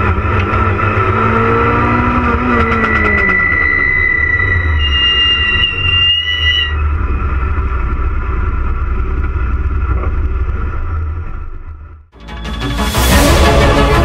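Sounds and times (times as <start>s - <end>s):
car engine drone and road rumble: 0.0s - 14.0s
high whine: 0.0s - 14.0s.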